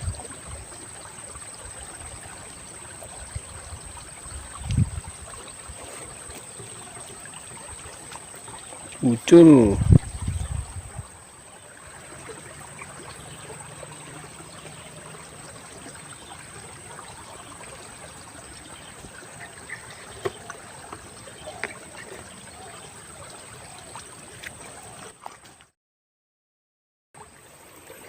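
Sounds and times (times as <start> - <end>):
stream water trickling: 0.0 - 25.8, 27.2 - 28.0.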